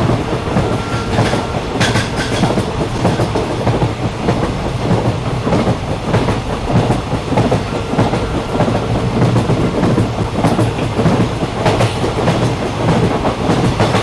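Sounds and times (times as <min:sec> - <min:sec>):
train rumbling: 0:00.0 - 0:14.0
wheels clacking on track: 0:00.0 - 0:14.0.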